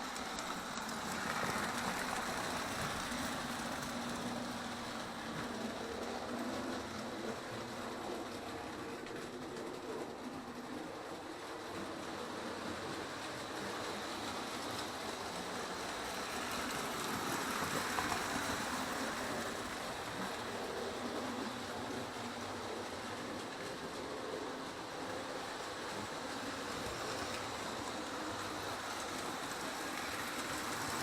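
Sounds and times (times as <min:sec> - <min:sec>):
toy train wheels clattering: 0:00.0 - 0:31.0.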